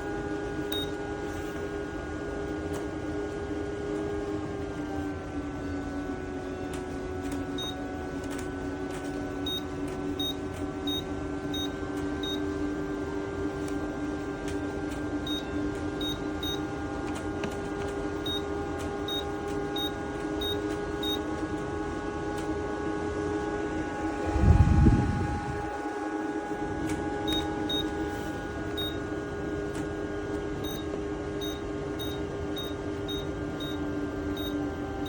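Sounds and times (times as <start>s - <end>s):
fan humming: 0.0s - 35.0s.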